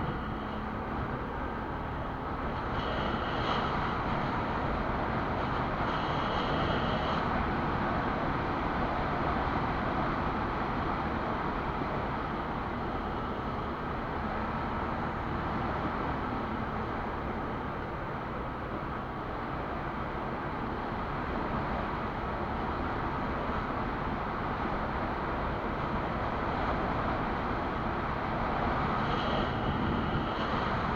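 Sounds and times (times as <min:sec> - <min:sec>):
constant rushing noise: 0:00.0 - 0:30.9.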